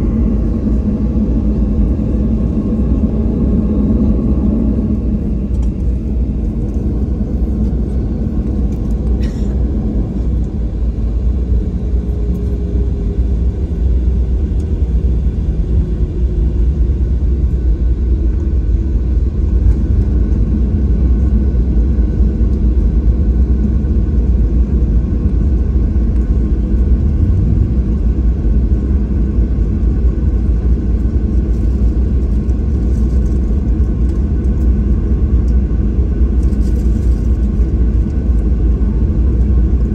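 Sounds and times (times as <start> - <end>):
aircraft cabin low rumble: 0.0 - 39.9.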